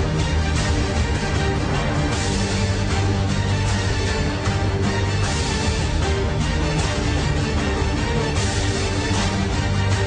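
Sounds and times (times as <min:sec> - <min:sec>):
music with deep bass: 0:00.0 - 0:10.0
percussion hits: 0:00.0 - 0:10.0.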